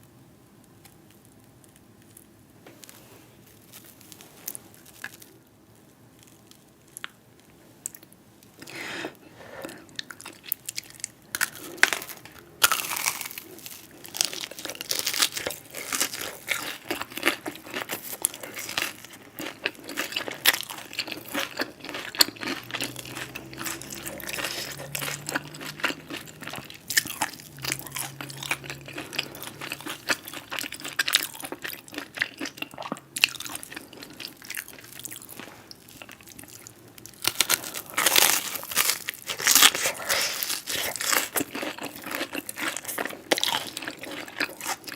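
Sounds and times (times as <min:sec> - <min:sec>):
crunchy food being chewed: 0:00.8 - 0:44.9.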